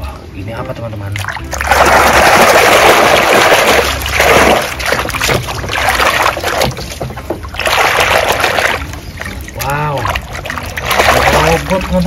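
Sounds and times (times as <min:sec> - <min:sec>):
water splashing in basin: 0:01.2 - 0:12.0.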